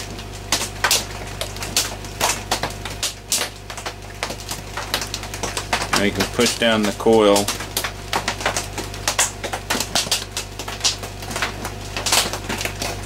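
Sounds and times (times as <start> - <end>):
hard rain on a tin roof: 0.0 - 13.0.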